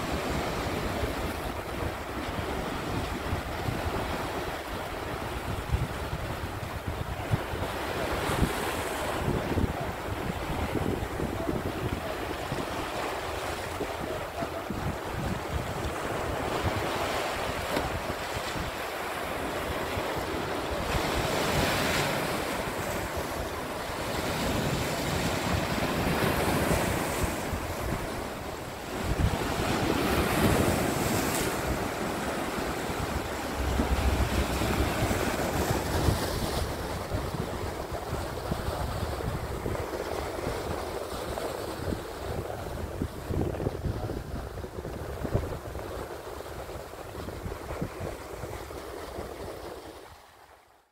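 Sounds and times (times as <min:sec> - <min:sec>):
wind buffeting microphone: 0:00.0 - 0:49.9
waves breaking over rocks: 0:00.0 - 0:50.1.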